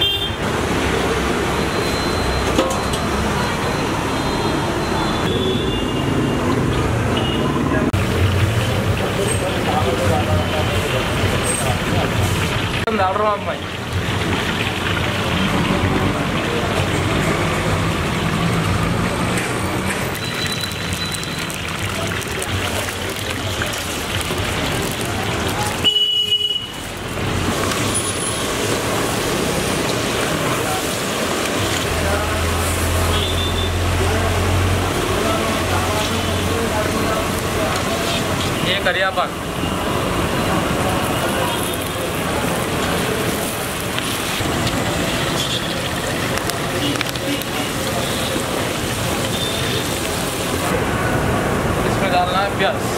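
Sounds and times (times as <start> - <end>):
oil crackling and spattering: 7.8 - 52.9
oil sizzling in a wok: 8.0 - 50.8.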